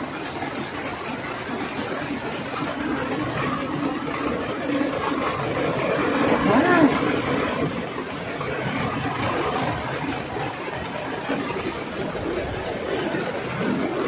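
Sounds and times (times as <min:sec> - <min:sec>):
heavy rain on greenhouse roof: 0:00.0 - 0:14.0.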